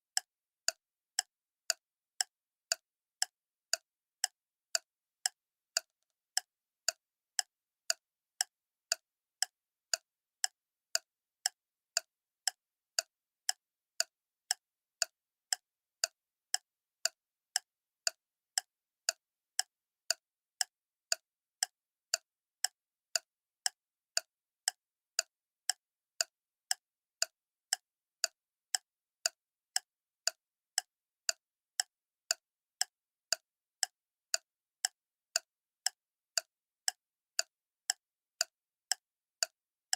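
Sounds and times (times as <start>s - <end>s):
clock ticking: 0.2s - 39.9s.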